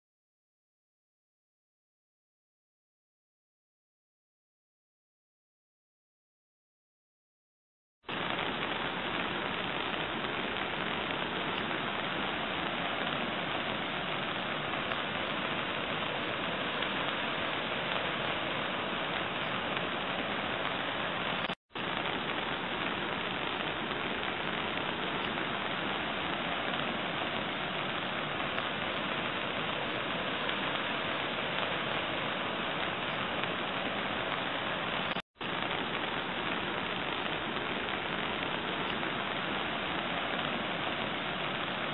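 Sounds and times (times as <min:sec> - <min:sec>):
rain hissing: 0:08.1 - 0:41.9.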